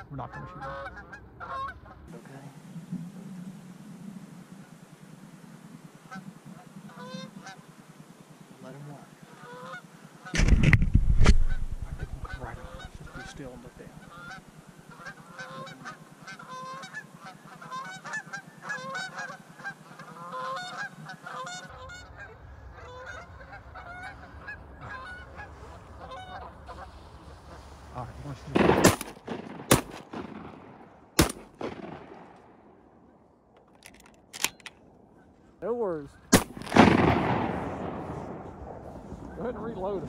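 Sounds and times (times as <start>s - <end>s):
geese honking: 0.0s - 10.4s, 11.4s - 34.5s, 35.1s - 40.0s.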